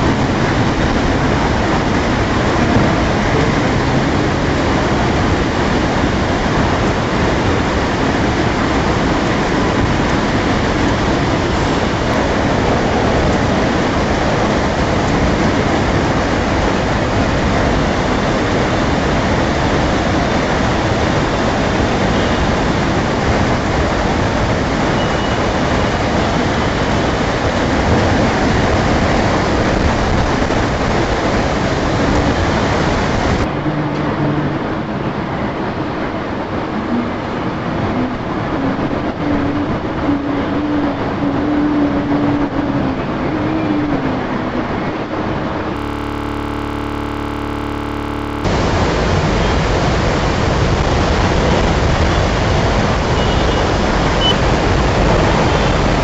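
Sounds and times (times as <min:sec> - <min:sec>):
heavy rain pouring: 0:00.0 - 0:35.4, 0:45.8 - 0:56.0.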